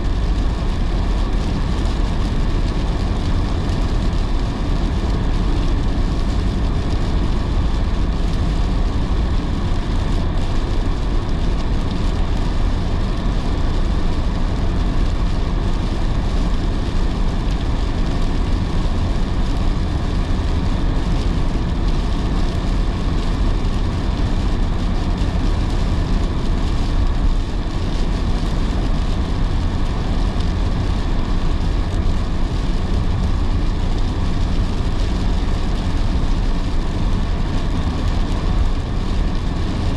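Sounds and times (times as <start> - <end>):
engine hum: 0.0 - 39.9
heavy rain: 0.0 - 39.9.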